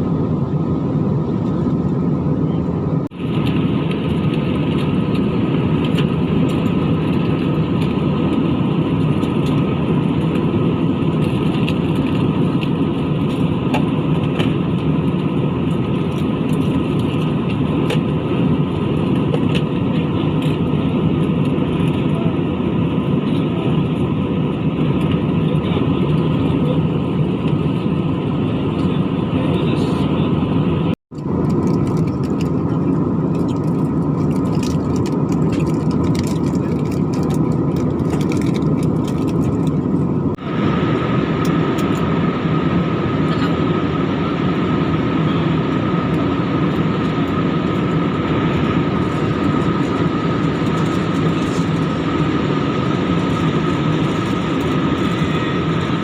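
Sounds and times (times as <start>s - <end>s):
airliner cabin roar: 0.0s - 56.0s
faint steady whine: 0.0s - 56.0s.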